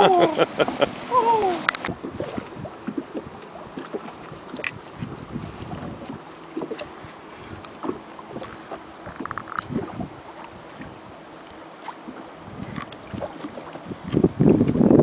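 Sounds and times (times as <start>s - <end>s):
wind buffeting microphone: 0.6s - 11.2s, 12.4s - 15.0s.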